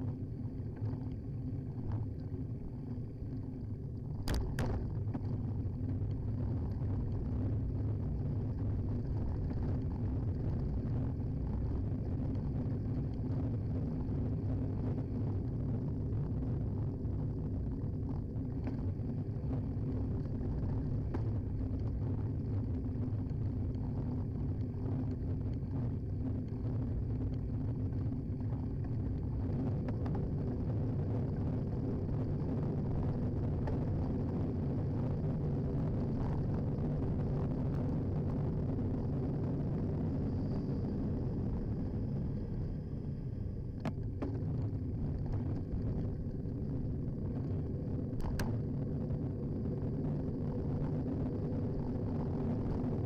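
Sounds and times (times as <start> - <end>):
bicycle riding on road: 0.0 - 53.0
wind on microphone: 0.0 - 53.0.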